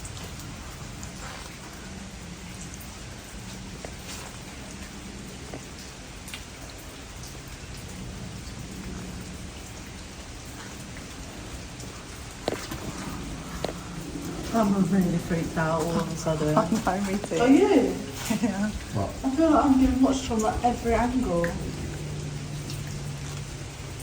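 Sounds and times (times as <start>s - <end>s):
rain hissing: 0.0s - 24.0s
water dripping: 0.0s - 24.0s.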